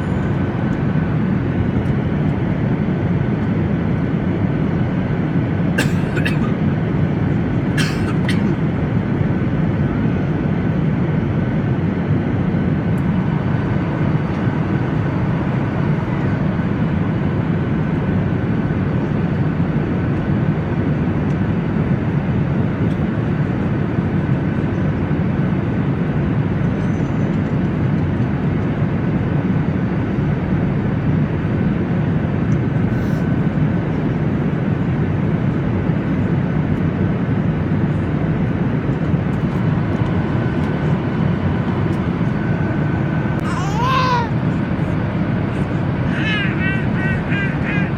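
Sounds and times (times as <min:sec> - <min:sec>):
faint constant whine: 0:00.0 - 0:47.9.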